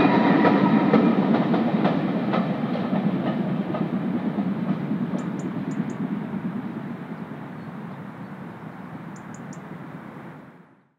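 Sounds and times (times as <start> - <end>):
steam train rumbling: 0.0 - 9.8.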